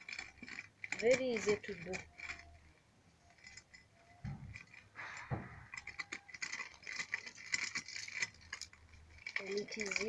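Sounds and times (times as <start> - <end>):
maize kernels clicking and rattling: 0.0 - 10.0.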